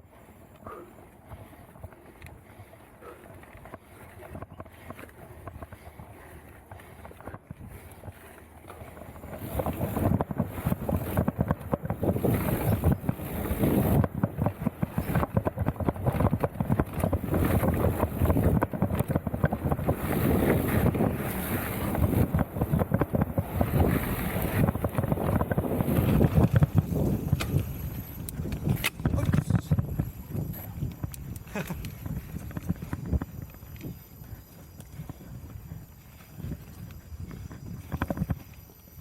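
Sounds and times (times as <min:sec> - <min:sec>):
bike rattling over rough trail: 0:00.0 - 0:39.0
wind buffeting microphone: 0:00.0 - 0:39.0.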